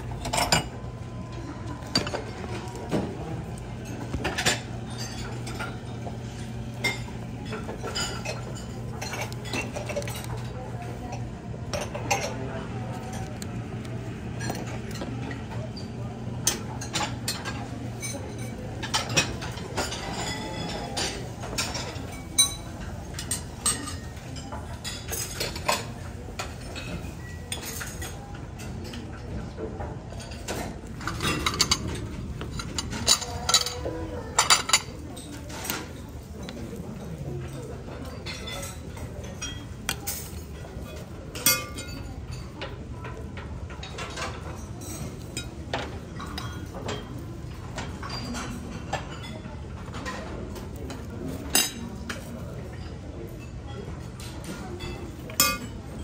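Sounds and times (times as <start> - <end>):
plates and cutlery clinking: 0.0 - 56.0
ventilation hum: 0.0 - 56.0.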